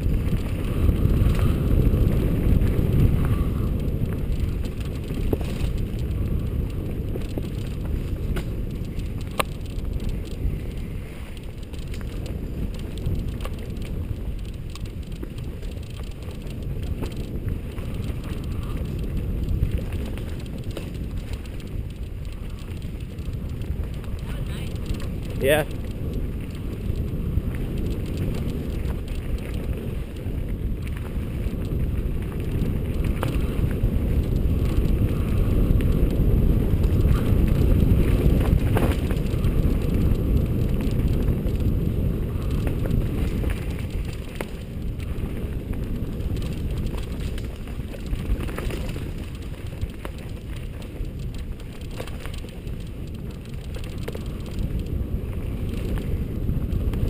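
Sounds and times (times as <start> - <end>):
bike clicks and rattles: 0.0 - 57.0
tyres rolling over dirt: 0.0 - 57.0
wind on microphone: 0.0 - 57.0.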